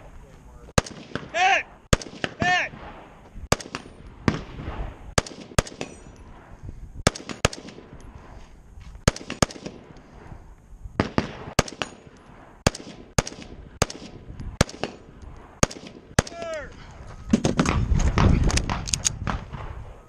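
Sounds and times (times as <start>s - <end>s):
rifle shots with echo: 0.8s - 8.4s, 9.0s - 10.3s, 11.0s - 16.6s, 17.3s - 20.0s.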